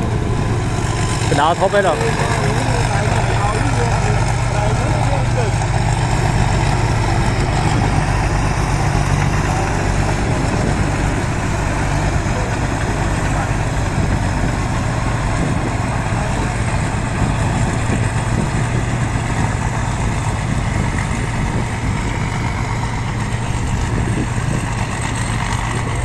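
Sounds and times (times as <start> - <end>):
tractor engine humming: 0.0 - 26.0.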